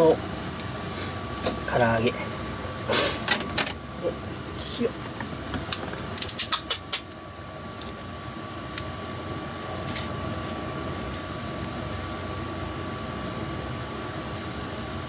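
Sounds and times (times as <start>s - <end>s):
frying oil crackling and popping: 0.0s - 15.0s
steady hum with high whine: 0.0s - 15.0s.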